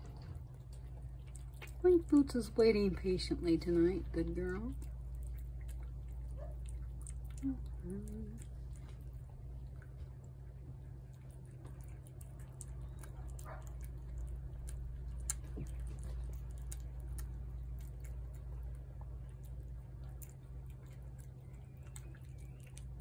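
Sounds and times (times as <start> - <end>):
cat chewing wet food: 0.0 - 23.0
steady low hum: 0.0 - 23.0.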